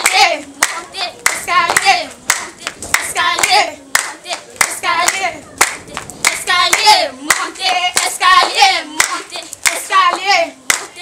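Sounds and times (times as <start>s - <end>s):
hand claps: 0.0s - 11.0s.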